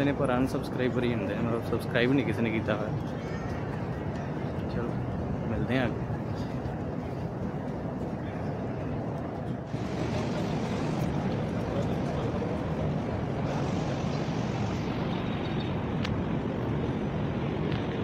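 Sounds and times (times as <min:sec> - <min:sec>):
low outdoor background noise: 0:00.0 - 0:18.0.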